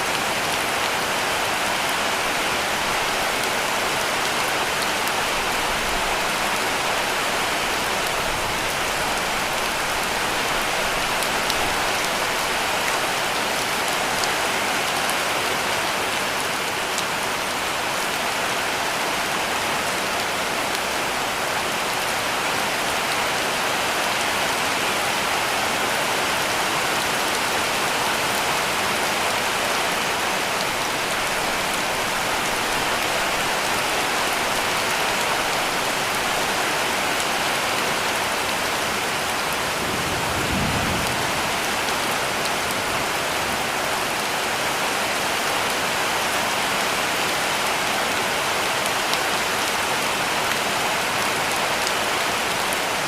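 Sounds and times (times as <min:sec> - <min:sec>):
heavy rain on a roof: 0:00.0 - 0:53.0.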